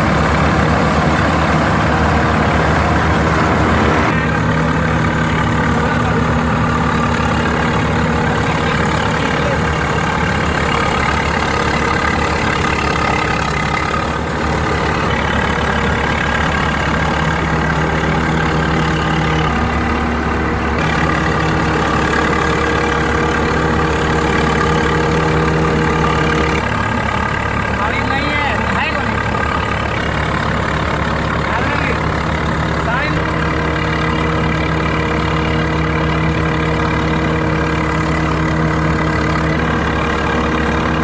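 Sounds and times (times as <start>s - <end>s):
combine harvester running: 0.0s - 41.0s.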